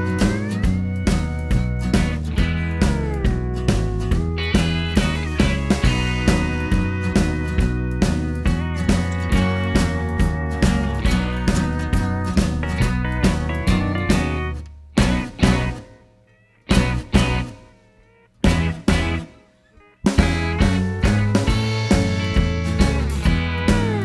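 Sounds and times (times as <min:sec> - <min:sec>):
rock music with guitar and drums: 0:00.0 - 0:24.0.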